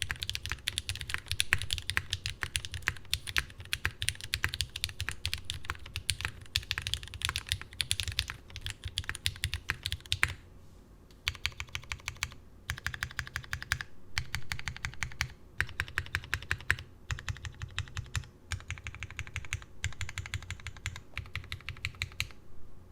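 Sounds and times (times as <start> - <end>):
mechanical keyboard typing: 0.0 - 10.4, 11.2 - 22.4.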